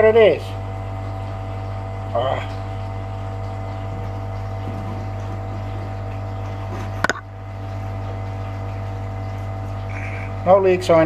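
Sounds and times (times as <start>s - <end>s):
electric pump humming: 0.0s - 11.0s.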